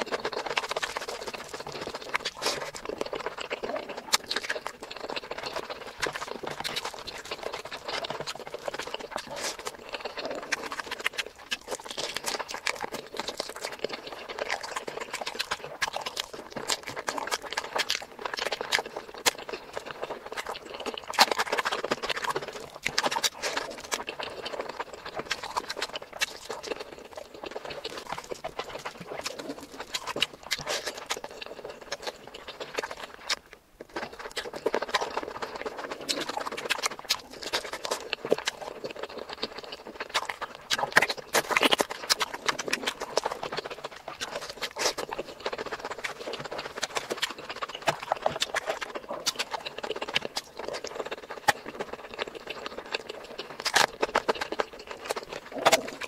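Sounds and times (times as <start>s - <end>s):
wet chewing and lip smacks: 0.0s - 56.0s.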